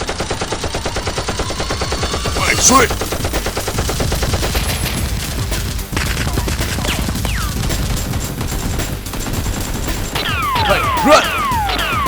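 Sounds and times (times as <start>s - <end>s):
rapid gunfire sound effects: 0.0s - 12.0s.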